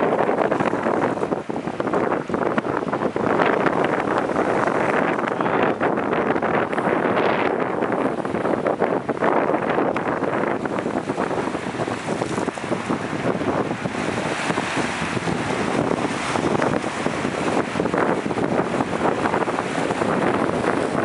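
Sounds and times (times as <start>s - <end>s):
waves breaking on rocks: 0.0s - 21.0s
wind buffeting microphone: 0.0s - 21.0s.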